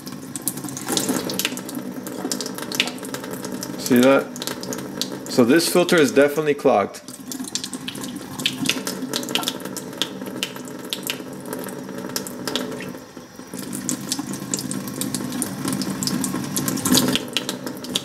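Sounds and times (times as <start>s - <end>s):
water stream splashing into sink: 0.0s - 6.3s, 7.0s - 18.0s
water trickling through filter: 0.0s - 6.3s, 7.0s - 18.0s.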